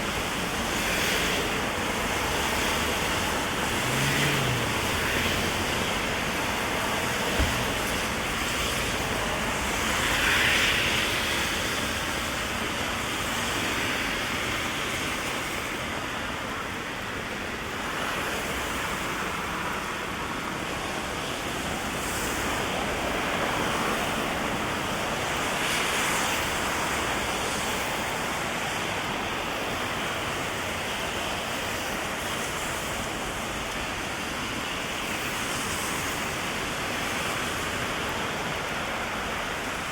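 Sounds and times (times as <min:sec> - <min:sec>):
cars passing on wet road: 0:00.0 - 0:39.9
heavy rain on street: 0:00.0 - 0:39.9.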